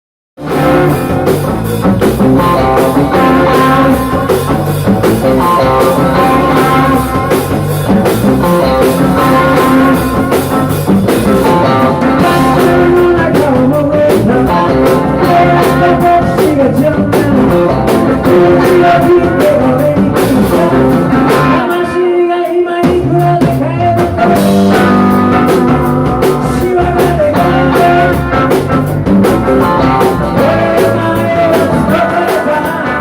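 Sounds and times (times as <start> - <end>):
bass guitar: 0.4 - 33.0
drum kit: 0.4 - 33.0
electric guitars: 0.4 - 33.0.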